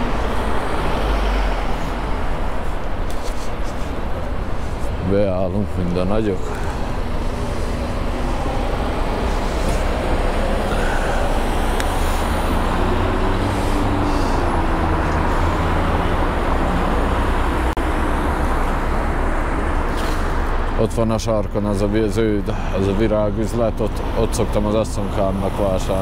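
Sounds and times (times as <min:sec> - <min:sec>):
cars passing: 0:00.0 - 0:26.0.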